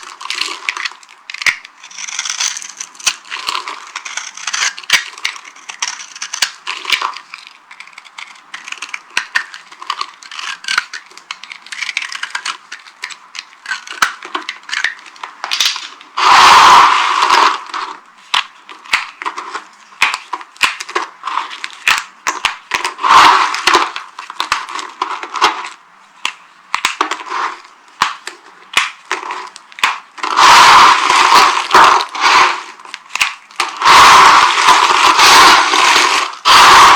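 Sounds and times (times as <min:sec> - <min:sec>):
dry soap crackling and crunching: 0:00.0 - 0:36.9.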